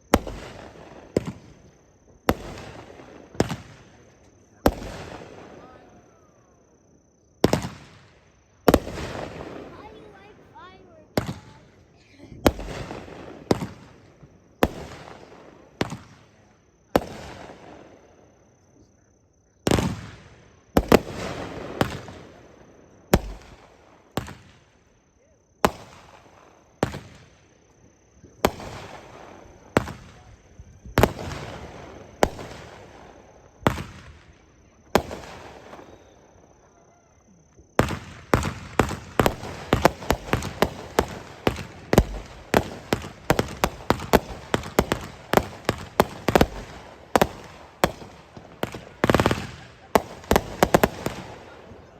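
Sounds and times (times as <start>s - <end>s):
crackling firework reports: 0.0s - 6.7s, 7.4s - 18.9s, 19.6s - 51.9s
firework shots echoing: 0.0s - 6.8s, 7.4s - 18.6s, 19.6s - 51.9s.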